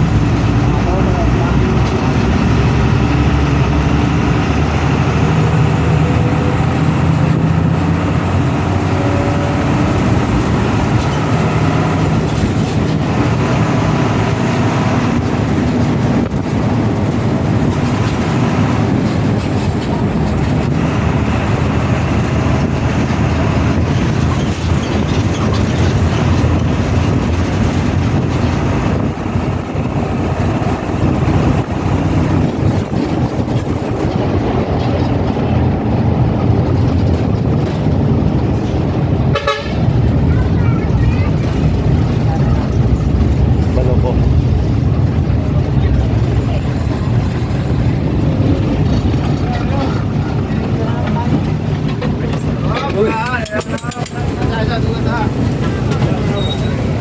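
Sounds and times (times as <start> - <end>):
bus engine running: 0.0 - 57.0
road and body noise: 0.0 - 57.0.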